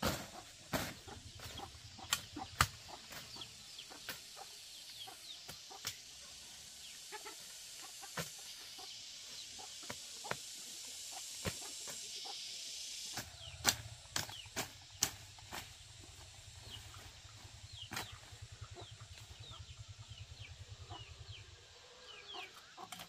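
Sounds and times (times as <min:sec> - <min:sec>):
steady high hiss: 0:00.0 - 0:22.9
chickens clucking: 0:00.0 - 0:23.0.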